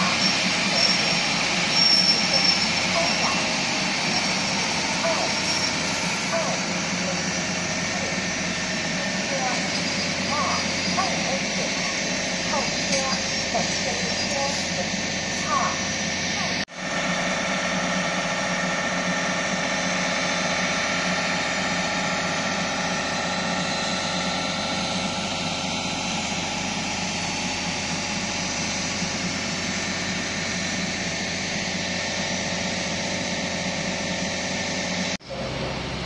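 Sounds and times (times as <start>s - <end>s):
diesel train engine idling: 0.0s - 36.0s.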